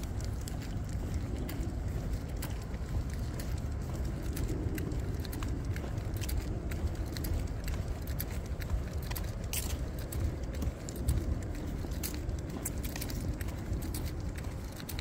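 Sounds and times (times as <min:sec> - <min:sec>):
steady low rumble: 0:00.0 - 0:15.0
leash clip jingling: 0:00.1 - 0:15.0.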